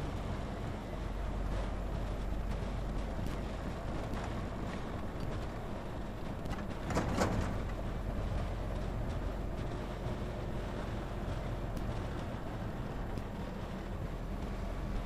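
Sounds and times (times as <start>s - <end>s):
jeep engine rumble: 0.0s - 15.0s
wind noise: 0.0s - 15.0s
vehicle body rattles: 1.2s - 15.0s.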